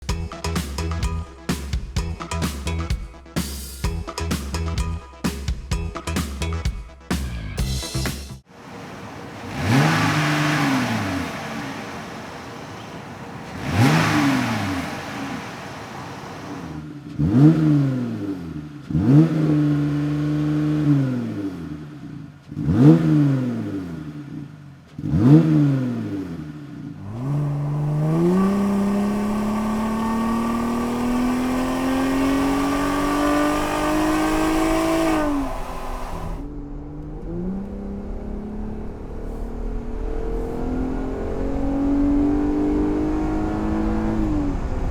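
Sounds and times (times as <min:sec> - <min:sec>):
car engine revving: 0:08.6 - 0:44.9.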